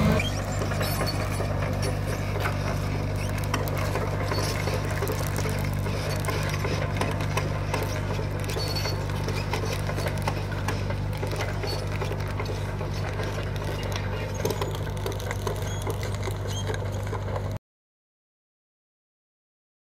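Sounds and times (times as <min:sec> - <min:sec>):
excavator engine humming: 0:00.0 - 0:17.6
rapid irregular clicking and rattling: 0:00.3 - 0:17.6.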